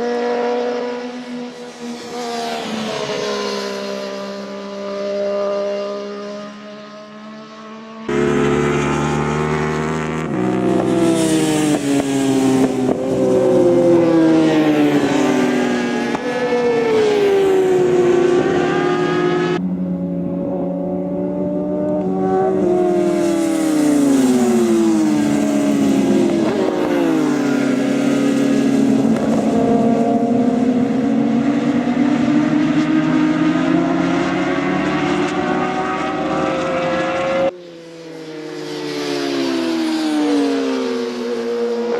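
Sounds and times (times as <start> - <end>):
racing motorcycle engines revving: 0.0 - 41.9.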